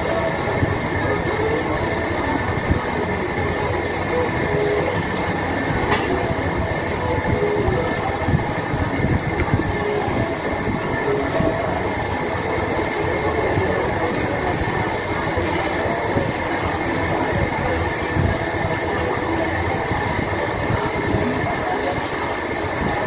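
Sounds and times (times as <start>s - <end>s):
restaurant din: 0.0s - 23.0s.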